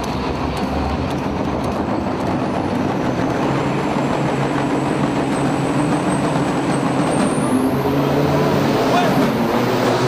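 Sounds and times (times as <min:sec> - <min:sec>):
diesel truck engine running hard: 0:00.0 - 0:10.0.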